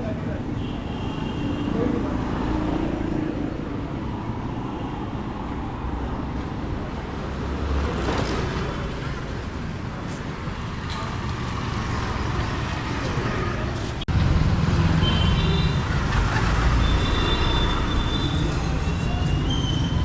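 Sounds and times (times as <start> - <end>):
passing motor vehicles: 1.4 - 20.0.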